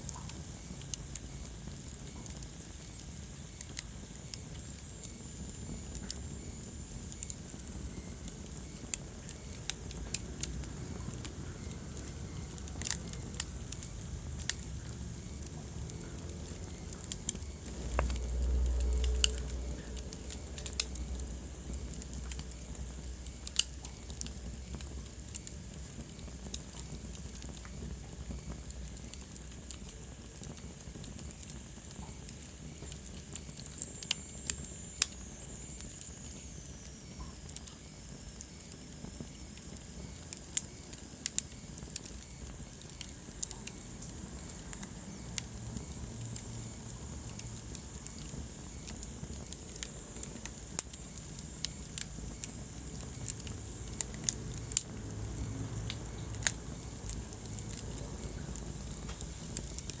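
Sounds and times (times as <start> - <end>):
fire crackling and popping: 0.0 - 60.0
fire flames rumbling: 0.0 - 60.0.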